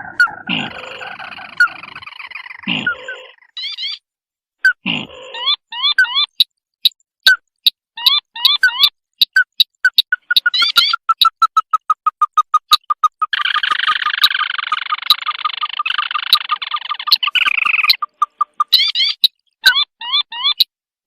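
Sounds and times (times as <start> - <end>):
sharp ticking bird notes: 0.0 - 4.0, 4.7 - 20.8.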